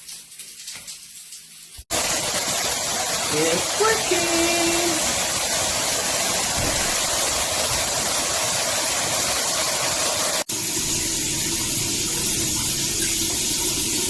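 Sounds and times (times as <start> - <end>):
shower water spraying: 0.0 - 14.0.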